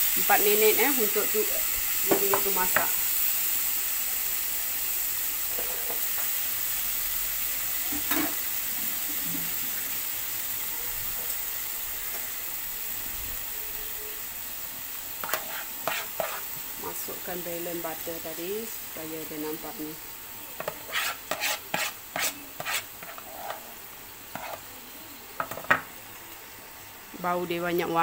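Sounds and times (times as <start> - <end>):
chicken sizzling in grill pan: 0.0 - 28.0.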